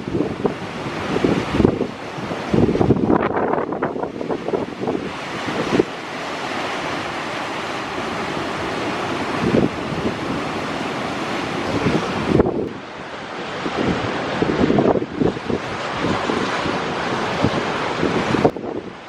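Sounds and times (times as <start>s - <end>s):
storm surf breaking: 0.0s - 19.0s
wind buffeting microphone: 0.0s - 19.0s.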